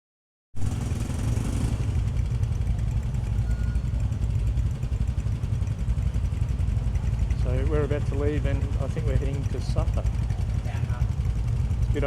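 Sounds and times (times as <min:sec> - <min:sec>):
motorcycle engine idling: 0:00.6 - 0:12.0.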